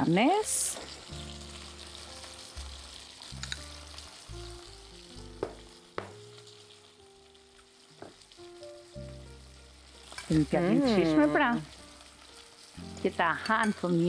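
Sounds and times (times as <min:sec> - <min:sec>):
flatbread sizzling in a pan: 0:00.0 - 0:14.0
soft background music: 0:00.0 - 0:14.0.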